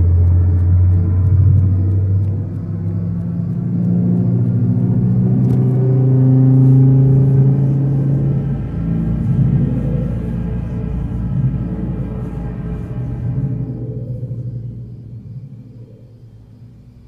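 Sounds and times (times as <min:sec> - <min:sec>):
low rumbling synthesized drone: 0:00.0 - 0:17.0.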